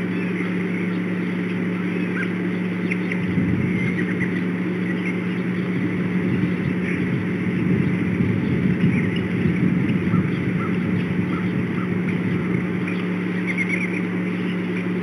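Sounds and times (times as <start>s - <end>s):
low outdoor drone with hum: 0.0s - 15.0s
small birds chirping: 0.0s - 15.0s.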